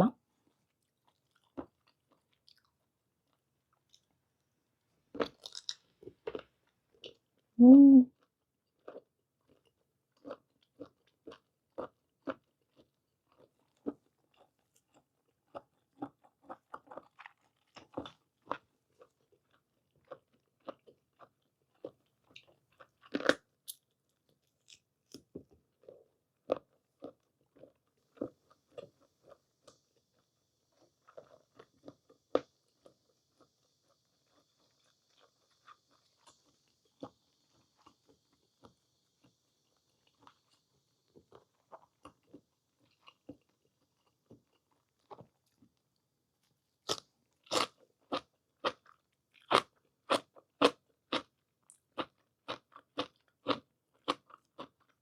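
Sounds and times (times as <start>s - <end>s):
chewing with mouth clicks: 0.4s - 4.1s, 8.2s - 45.9s, 46.8s - 55.0s.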